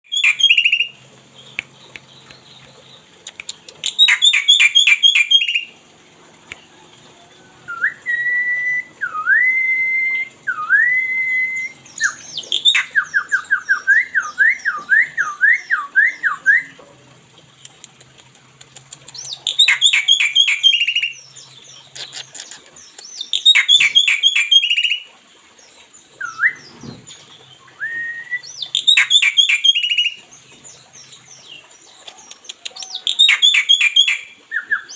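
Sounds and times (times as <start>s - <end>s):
songbird singing: 0.0s - 16.8s, 17.4s - 34.9s.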